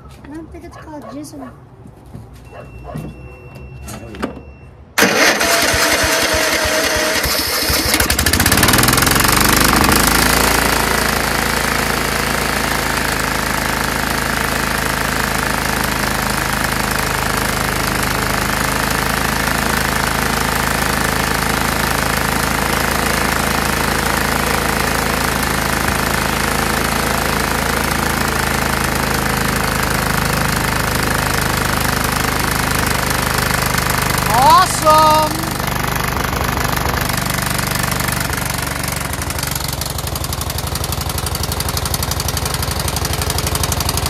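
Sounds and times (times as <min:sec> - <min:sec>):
electric starter cranking engine: 0:05.0 - 0:44.0
lawn tractor engine running: 0:05.0 - 0:44.0.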